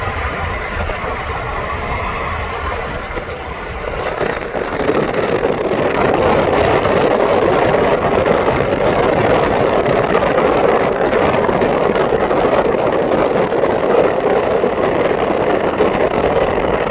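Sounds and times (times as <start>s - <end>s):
car road and wind noise: 0.0s - 16.9s.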